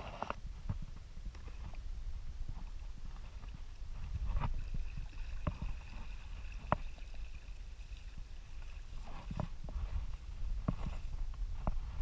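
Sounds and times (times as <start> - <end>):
water against a kayak hull: 0.0 - 12.0.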